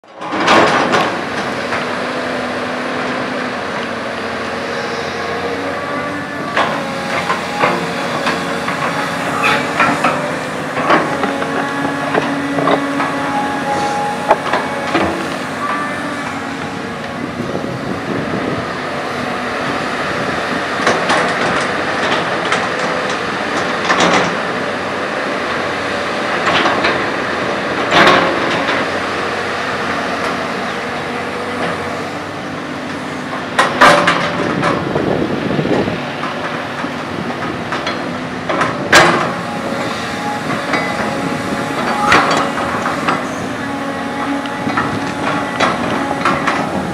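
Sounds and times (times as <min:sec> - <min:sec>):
diesel engine under load: 0:00.0 - 0:46.9
hydraulics humming: 0:00.2 - 0:46.9.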